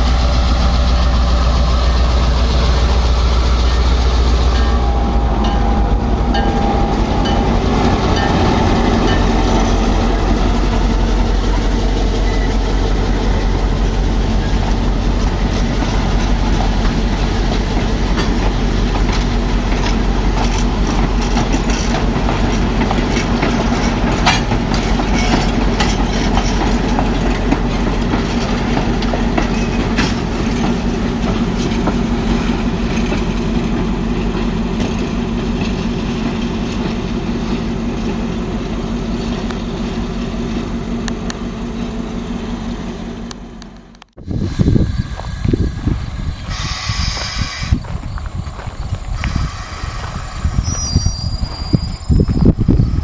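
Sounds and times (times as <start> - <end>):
train wheels clicking on rails: 0.0 - 42.2, 43.2 - 53.0.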